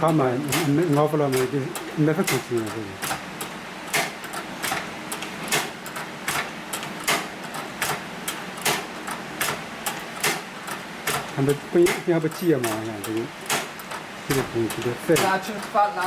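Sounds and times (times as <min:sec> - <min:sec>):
sewing machine knocking: 0:00.0 - 0:15.7.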